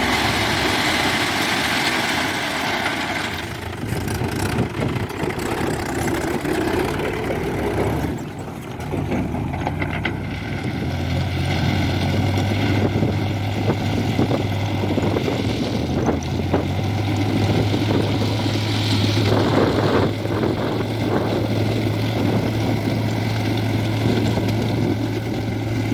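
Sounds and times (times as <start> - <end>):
heavy diesel engine running: 0.0 - 25.9.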